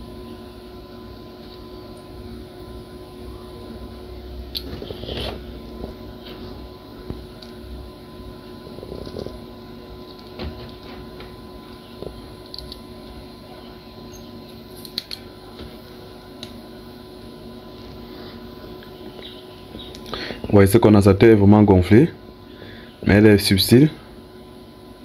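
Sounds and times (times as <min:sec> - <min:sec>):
steady faint hum: 0:00.0 - 0:25.0.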